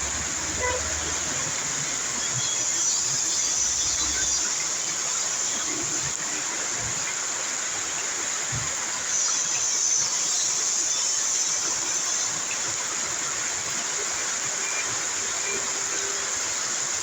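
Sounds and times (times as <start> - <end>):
falling rain hissing: 0.0 - 17.0.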